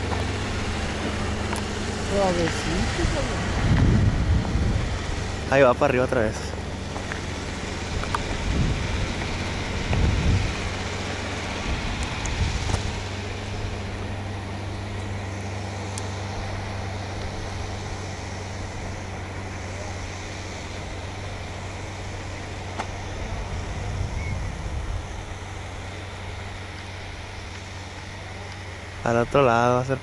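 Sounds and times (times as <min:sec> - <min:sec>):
wind buffeting microphone: 0:00.0 - 0:19.6, 0:20.2 - 0:28.1
distant propeller plane drone: 0:00.0 - 0:30.0.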